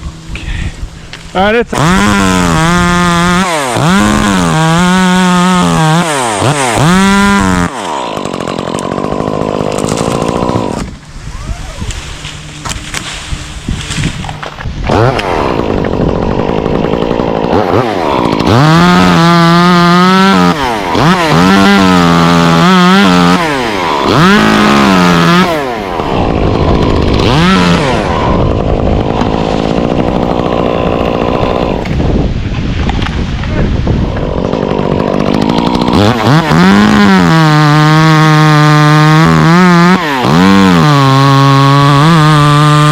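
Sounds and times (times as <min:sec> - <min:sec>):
chainsaw cutting wood: 0:01.1 - 0:42.9.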